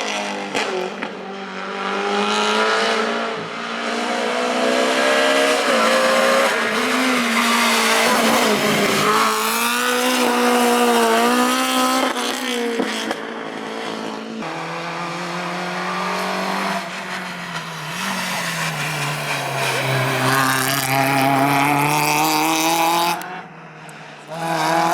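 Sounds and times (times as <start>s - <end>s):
rally car engine revving: 0.0s - 24.9s.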